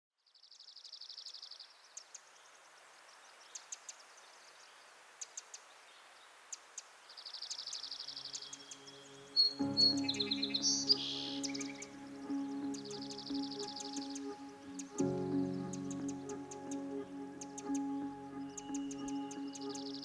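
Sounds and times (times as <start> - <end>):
faint outdoor hiss: 0.2 - 20.0.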